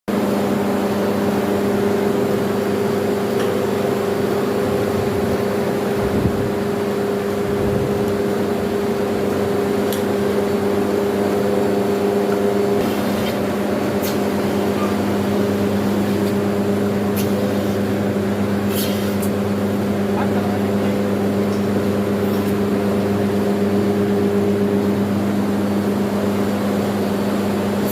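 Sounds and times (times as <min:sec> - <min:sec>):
motor humming: 0:01.2 - 0:27.9.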